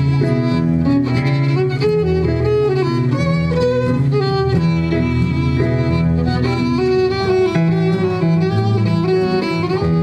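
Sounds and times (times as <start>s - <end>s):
band accompaniment: 0.0s - 10.0s
fiddle melody: 0.0s - 10.0s.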